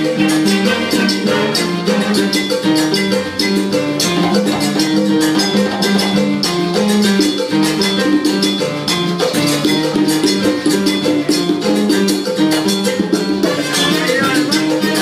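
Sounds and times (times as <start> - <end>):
percussion rhythm: 0.0 - 15.0
salsa band playing: 0.0 - 15.0.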